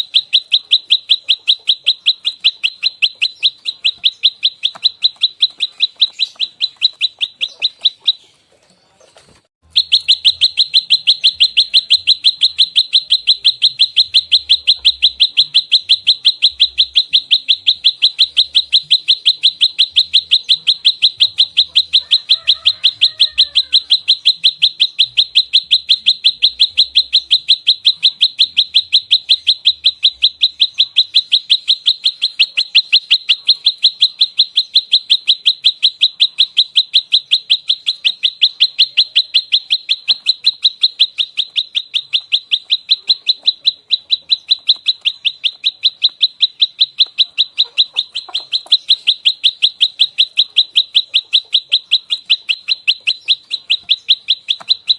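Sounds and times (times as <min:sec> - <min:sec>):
songbird rapid high chips: 0:00.0 - 0:08.5, 0:09.2 - 0:54.9.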